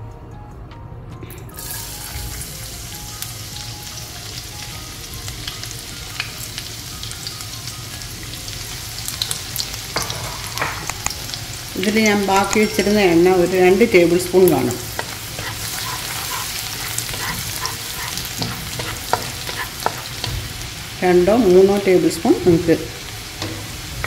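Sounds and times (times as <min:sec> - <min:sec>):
garlic sizzling in hot oil: 0:01.6 - 0:24.0.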